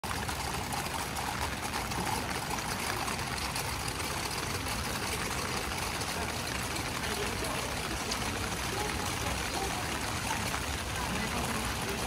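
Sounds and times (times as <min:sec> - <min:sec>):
water trickling: 0:00.0 - 0:12.0
steady rain hiss: 0:00.1 - 0:12.0.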